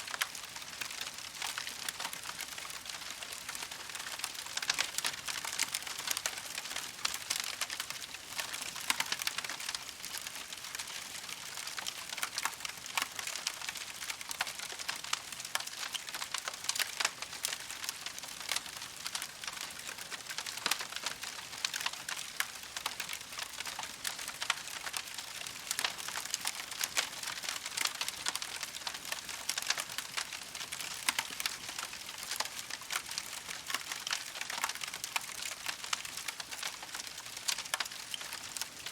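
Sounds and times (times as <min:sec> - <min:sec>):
campfire crackling: 0:00.1 - 0:38.9.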